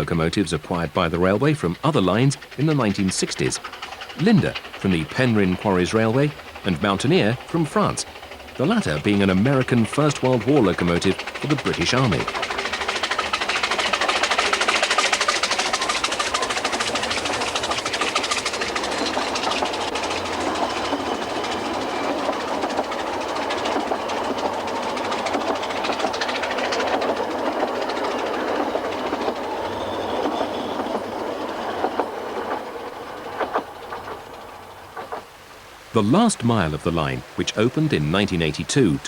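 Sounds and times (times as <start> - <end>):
rail clatter: 0.0 - 39.0
steam train exhaust beats: 0.0 - 39.0.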